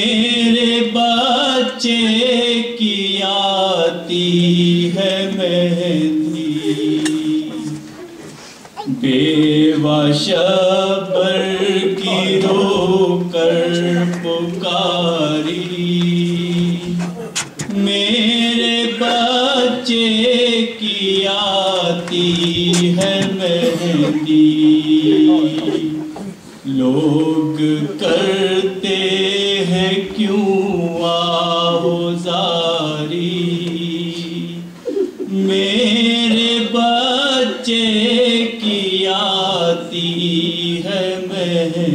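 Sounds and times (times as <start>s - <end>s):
man chanting unaccompanied: 0.0s - 7.8s, 8.8s - 34.7s, 35.3s - 41.9s.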